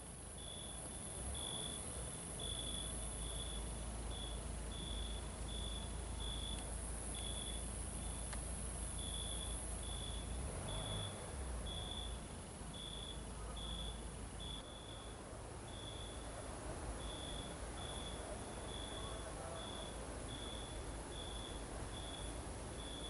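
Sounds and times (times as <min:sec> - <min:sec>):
cricket chirping: 0:00.0 - 0:23.0
low steady rumble: 0:00.0 - 0:23.0.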